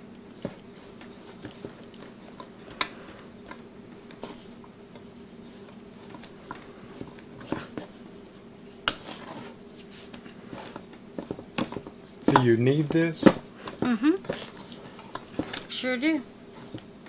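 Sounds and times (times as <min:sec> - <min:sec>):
steady low hum: 0:00.0 - 0:17.0
hands mixing wet dough: 0:00.2 - 0:17.0.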